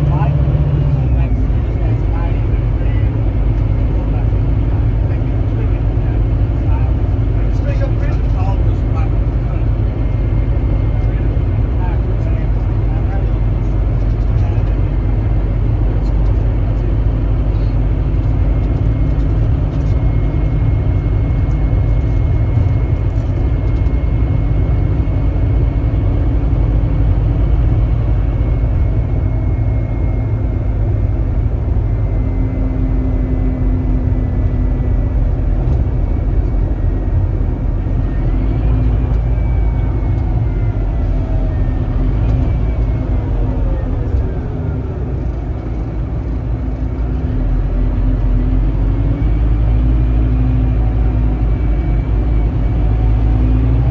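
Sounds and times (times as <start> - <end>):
bus diesel engine running: 0.0 - 53.9
road noise: 0.0 - 53.9.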